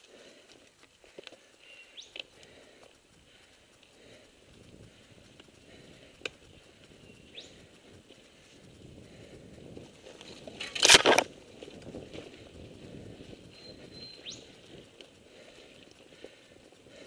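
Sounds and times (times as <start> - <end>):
bike rattling through bushes: 0.0 - 17.0
bike tyre and drivetrain noise: 0.0 - 17.0.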